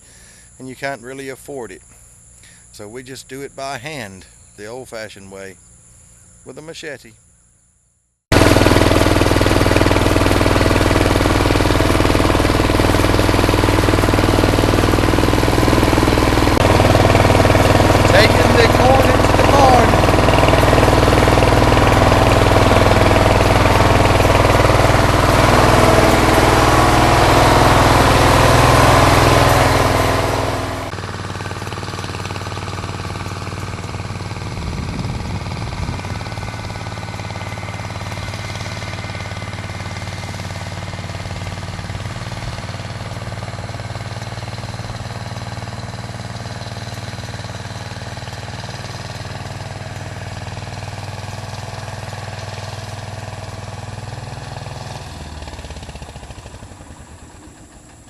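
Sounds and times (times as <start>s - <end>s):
garden tractor engine running: 0.0s - 5.6s, 8.3s - 58.0s.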